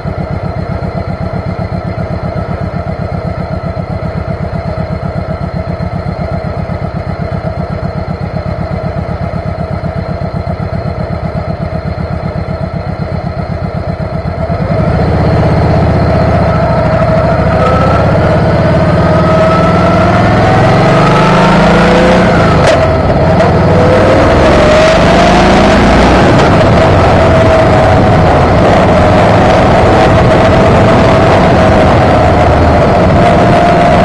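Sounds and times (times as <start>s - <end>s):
motorcycle engine: 0.0s - 34.0s.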